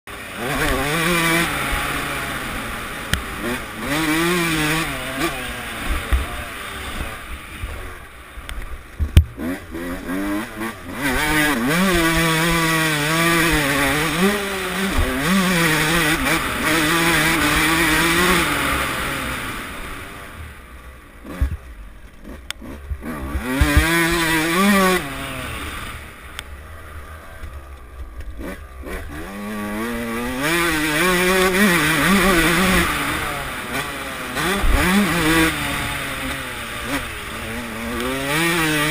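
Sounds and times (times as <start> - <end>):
motocross bike engine revving: 0.1 - 38.9.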